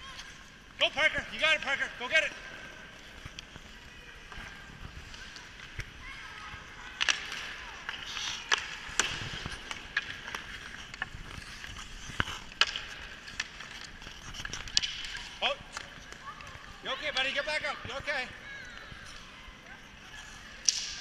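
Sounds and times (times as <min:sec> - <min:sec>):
hockey sticks striking puck: 0:00.1 - 0:19.2, 0:20.5 - 0:21.0
ice skate blades scraping: 0:00.1 - 0:20.7.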